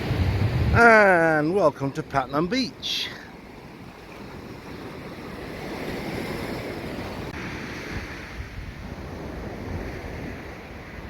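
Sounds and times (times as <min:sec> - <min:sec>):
wind buffeting microphone: 0:00.0 - 0:01.6, 0:03.4 - 0:11.0
surf washing onto beach: 0:00.0 - 0:11.0.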